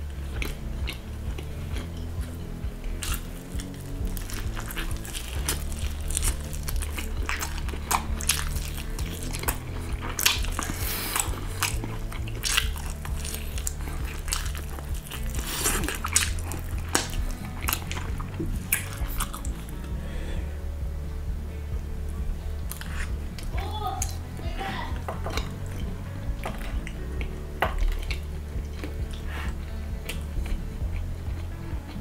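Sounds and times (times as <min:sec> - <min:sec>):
background music with bass: 0:00.0 - 0:32.0
biting and chewing meat: 0:00.0 - 0:32.0.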